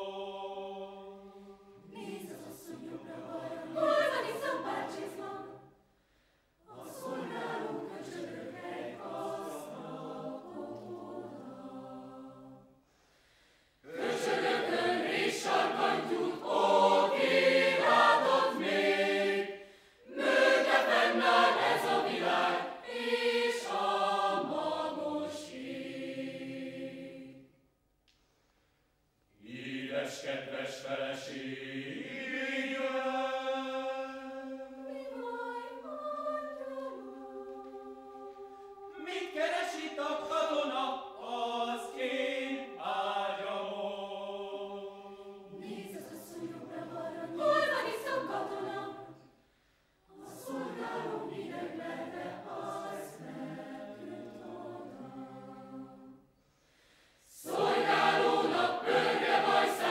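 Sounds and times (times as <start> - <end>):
mixed choir singing a cappella: 0.0 - 5.9, 6.6 - 12.8, 13.8 - 27.6, 29.3 - 56.3, 57.1 - 59.9.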